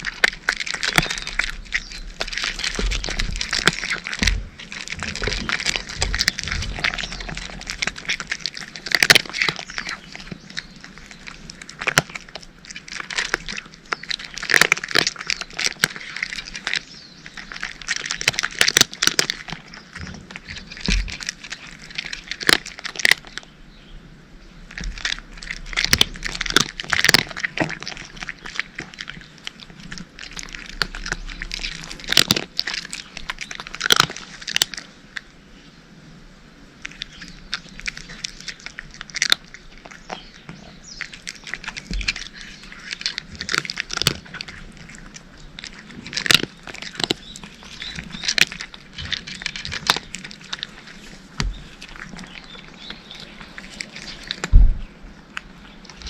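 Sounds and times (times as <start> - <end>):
cats crunching dry kibble: 0.0 - 23.6, 24.6 - 35.4, 36.6 - 56.0.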